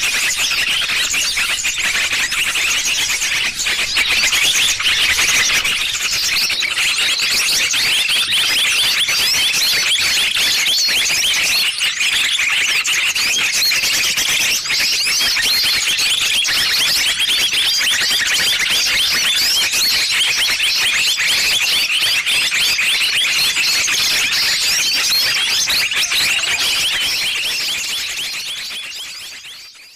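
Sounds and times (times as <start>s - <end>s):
high bird chirps and twitters: 0.0s - 29.9s.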